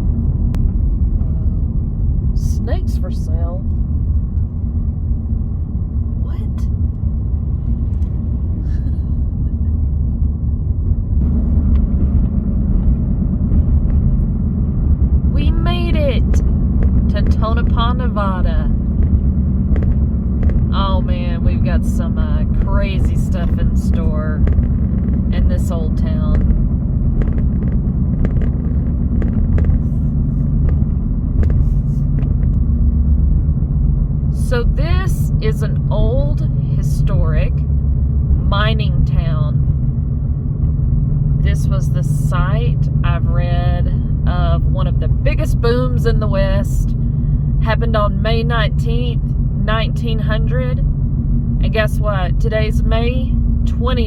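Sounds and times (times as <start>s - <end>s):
car driving low rumble: 0.0s - 54.0s.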